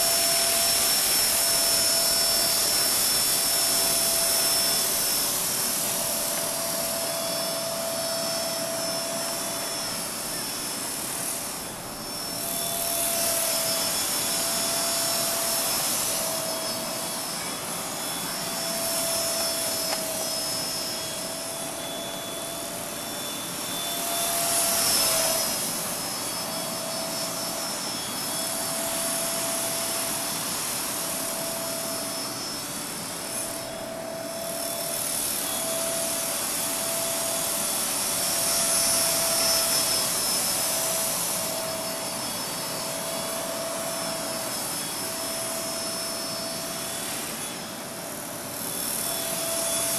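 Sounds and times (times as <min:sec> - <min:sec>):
toy helicopter motor whine: 0:00.0 - 0:49.9.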